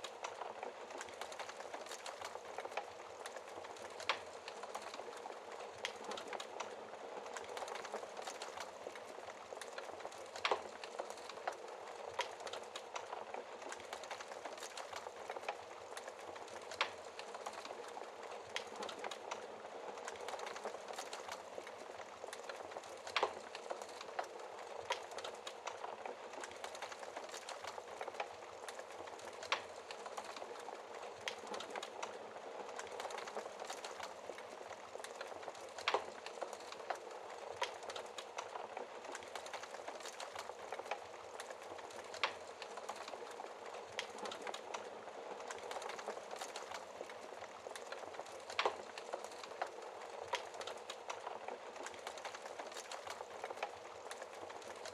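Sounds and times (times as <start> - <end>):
fire crackling: 0.0 - 54.9.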